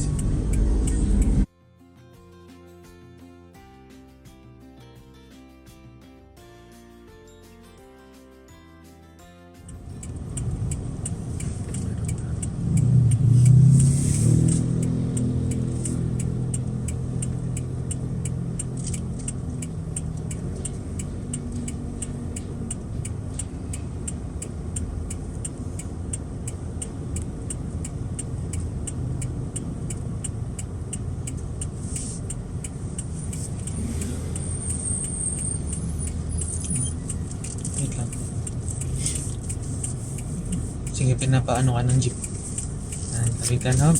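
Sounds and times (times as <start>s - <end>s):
car engine running: 0.0s - 1.5s, 9.6s - 43.9s
road noise: 0.0s - 1.5s, 9.5s - 43.9s.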